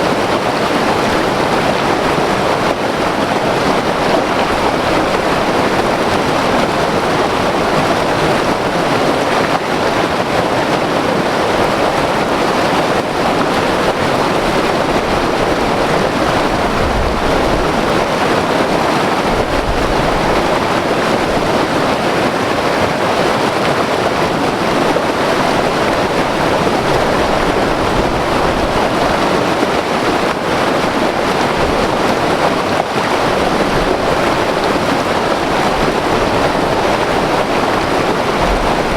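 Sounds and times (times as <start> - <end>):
river rushing over rapids: 0.0 - 38.9.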